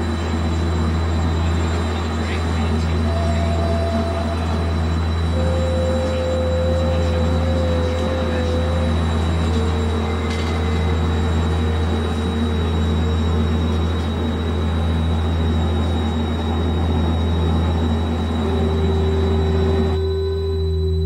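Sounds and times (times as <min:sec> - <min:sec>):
low hum: 0:00.0 - 0:21.0
held synth tones: 0:00.2 - 0:21.0.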